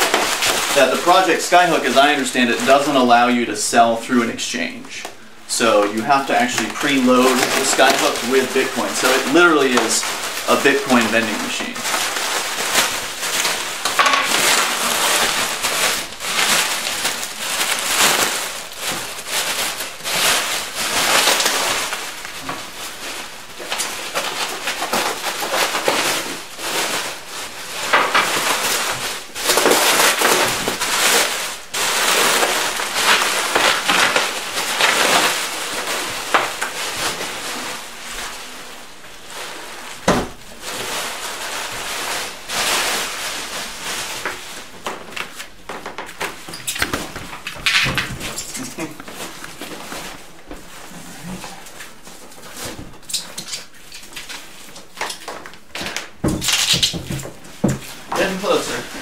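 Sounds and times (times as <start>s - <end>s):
bubble wrap crinkling: 0.0s - 59.0s.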